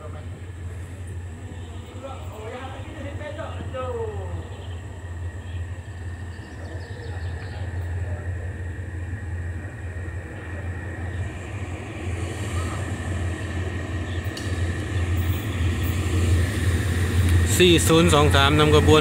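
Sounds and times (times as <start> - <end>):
locomotive engine hum: 0.0 - 19.0.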